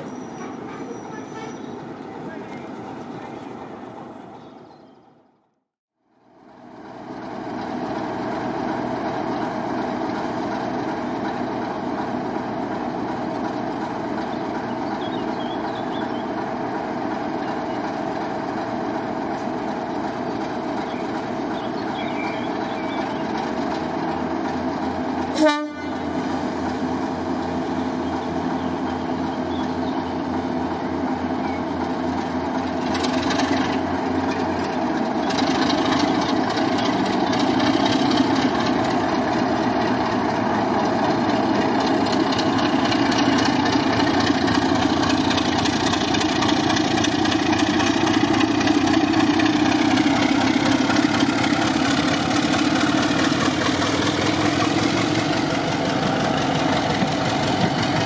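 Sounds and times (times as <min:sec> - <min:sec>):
diesel locomotive engine running: 0:00.0 - 0:58.0.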